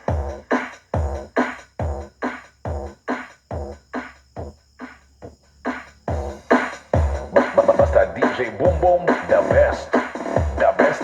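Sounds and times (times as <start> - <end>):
dance music with pounding beat: 0.0 - 11.0.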